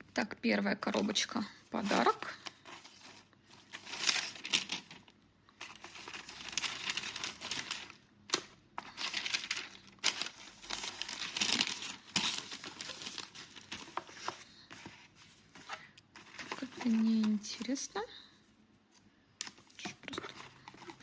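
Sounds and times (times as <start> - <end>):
packaging crinkling and rustling: 1.2 - 17.9, 19.4 - 21.0.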